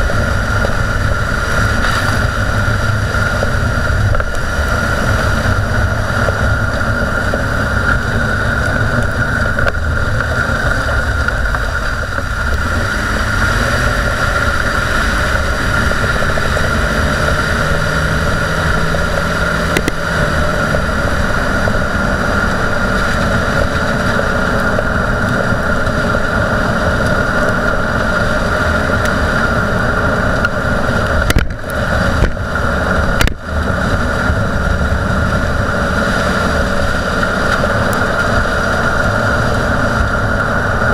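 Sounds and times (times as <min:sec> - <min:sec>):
tyre and road rumble: 0:00.0 - 0:40.9
wheel bearing growling: 0:00.0 - 0:40.9.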